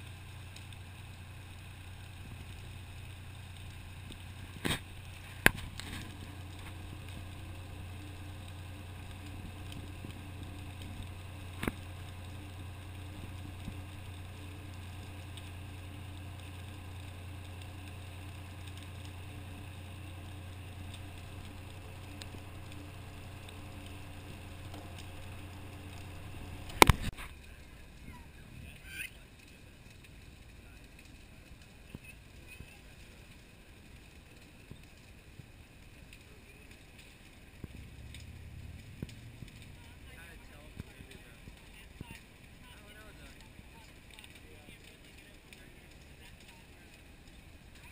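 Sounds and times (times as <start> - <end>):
diesel engine droning: 0.0 - 47.9.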